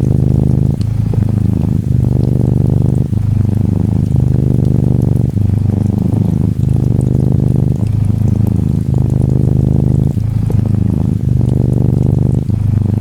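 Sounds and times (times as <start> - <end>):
faint rain patter: 0.0 - 13.0
kitten purring: 0.0 - 13.0.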